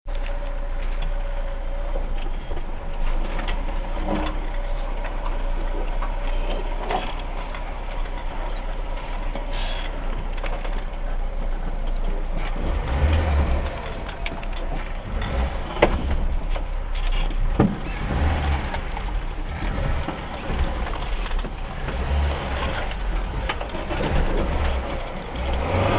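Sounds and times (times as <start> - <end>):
vehicle driving rumble: 0.0 - 25.9
knocks and rattles: 2.1 - 25.9.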